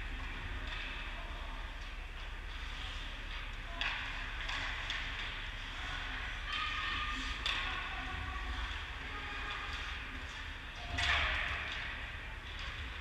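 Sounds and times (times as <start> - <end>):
sticks and puck clattering: 0.0 - 13.0.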